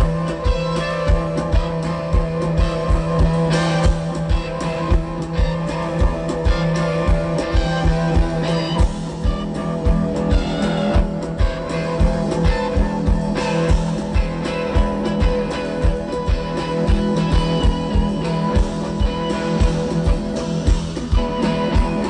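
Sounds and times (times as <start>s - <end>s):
electric guitars: 0.0s - 22.0s
steady low drum beat: 0.0s - 22.0s.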